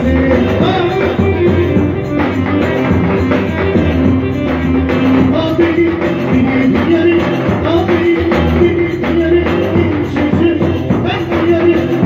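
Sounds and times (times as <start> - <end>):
electronic keyboard dance music: 0.0 - 12.0.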